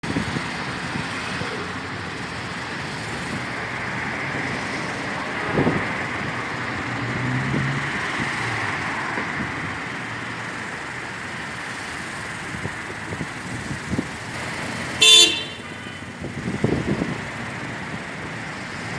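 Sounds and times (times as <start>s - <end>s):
road traffic going by: 0.0s - 18.9s.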